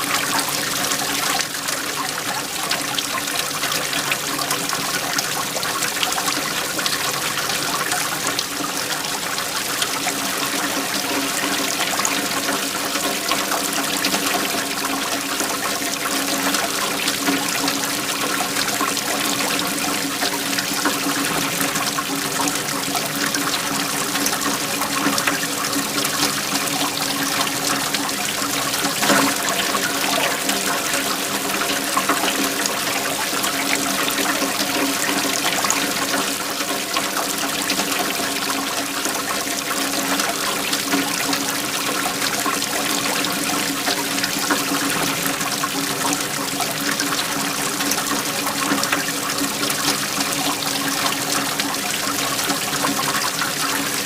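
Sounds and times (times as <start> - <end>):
waterfall flowing: 0.0 - 54.0.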